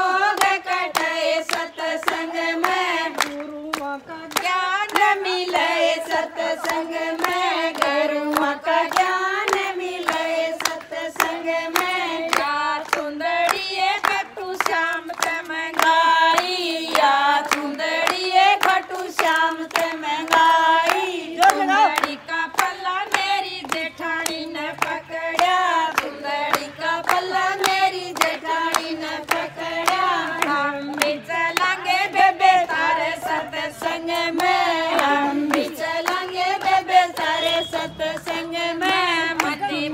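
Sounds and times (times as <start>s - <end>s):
rhythmic hand clapping: 0.0s - 39.9s
women singing devotional song: 0.0s - 39.9s.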